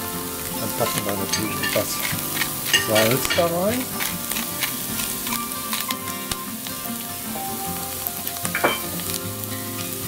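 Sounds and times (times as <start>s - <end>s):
mushrooms sizzling in a frying pan: 0.0s - 10.0s.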